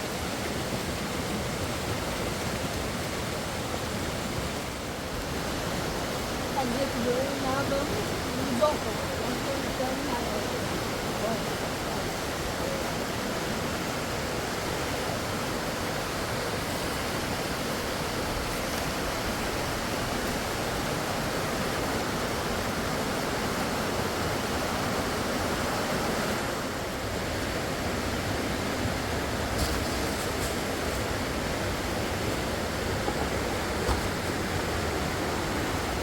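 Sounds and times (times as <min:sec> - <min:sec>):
fast-flowing river rushing: 0:00.0 - 0:36.0.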